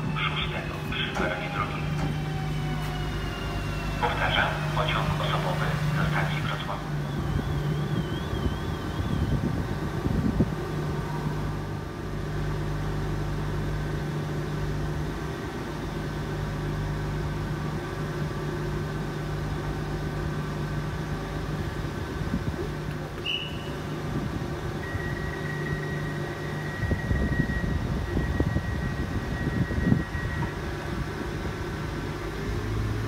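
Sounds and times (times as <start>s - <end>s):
train equipment humming: 0.0s - 33.0s.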